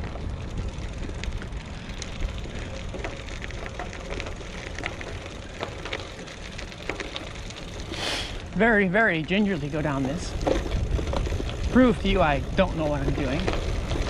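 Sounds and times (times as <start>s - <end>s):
small bike clicks and ticks: 0.0s - 14.0s
wind and tyres rolling on pavement: 0.0s - 14.0s.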